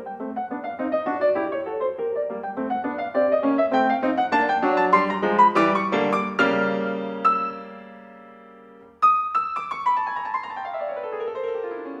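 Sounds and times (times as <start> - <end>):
solo piano music: 0.0 - 12.0.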